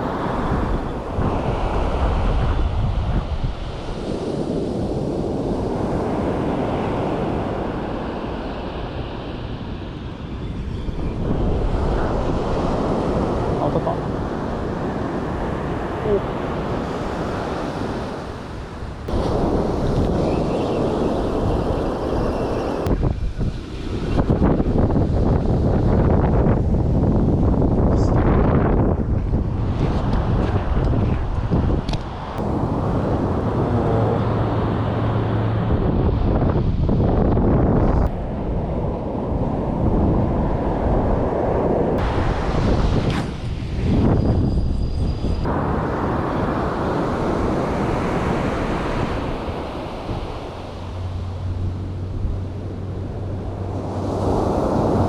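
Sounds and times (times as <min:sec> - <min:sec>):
surf washing onto beach: 0:00.0 - 0:10.3, 0:11.2 - 0:26.0, 0:29.3 - 0:37.0, 0:38.2 - 0:44.2, 0:45.4 - 0:55.0
wind buffeting microphone: 0:00.0 - 0:55.0.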